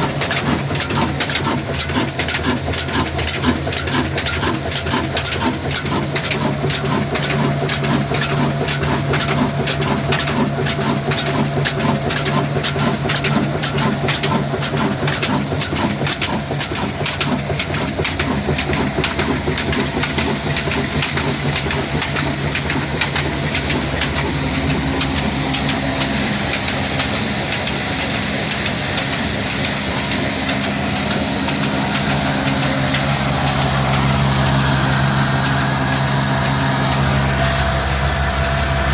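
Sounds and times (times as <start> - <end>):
diesel engine knocking: 0.0 - 38.9
engine hum and hiss: 0.0 - 38.9.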